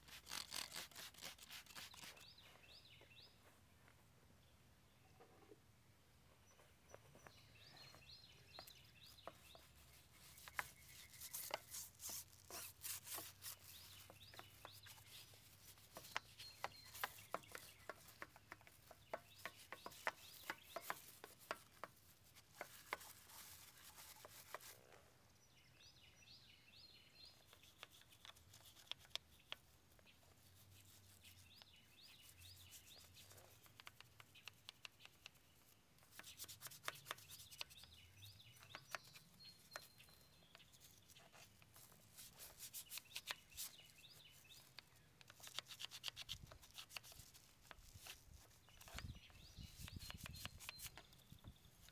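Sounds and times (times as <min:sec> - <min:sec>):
birds chirping faintly: 0:00.0 - 0:51.9.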